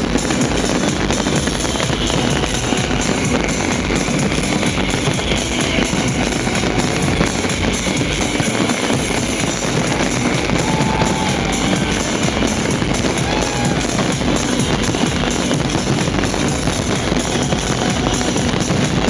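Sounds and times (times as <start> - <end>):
loud rock music: 0.0 - 19.0.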